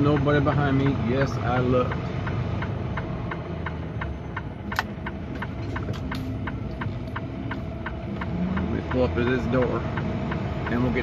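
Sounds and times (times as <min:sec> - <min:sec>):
even ticking: 0:00.0 - 0:11.0
truck engine running: 0:00.0 - 0:11.0.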